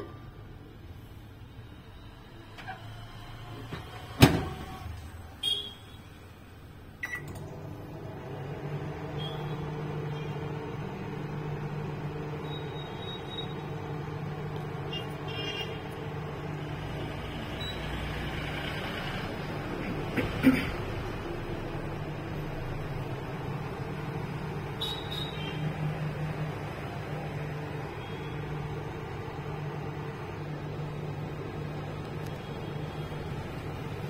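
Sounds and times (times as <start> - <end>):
microwave oven humming: 6.5 - 34.0.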